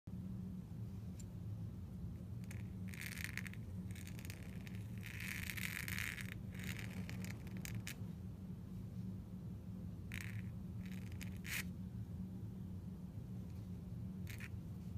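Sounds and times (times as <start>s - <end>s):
steady low hum: 0.1s - 14.9s.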